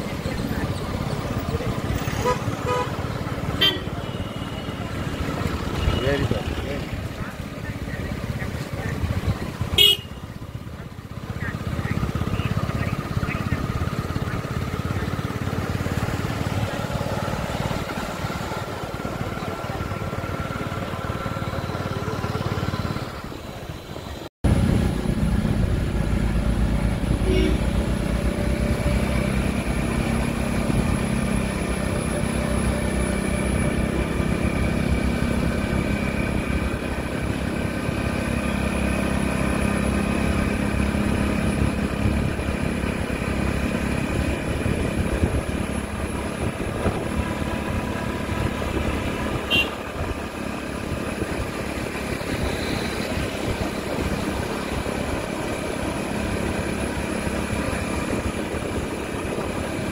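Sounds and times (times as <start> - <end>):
road noise: 0.0 - 59.9
vehicle engine running: 0.0 - 59.9.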